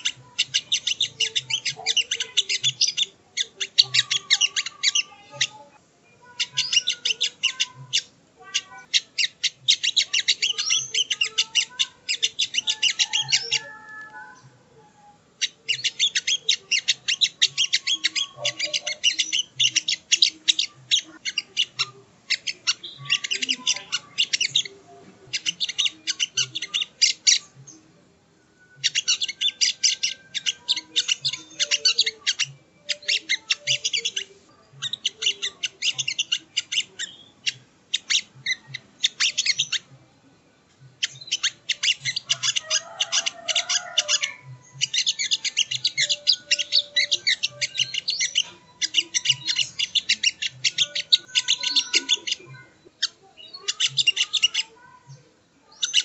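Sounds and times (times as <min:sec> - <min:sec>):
bird chattering high chirps: 0:00.0 - 0:14.5, 0:15.4 - 0:27.8, 0:28.7 - 0:40.0, 0:40.7 - 0:56.0.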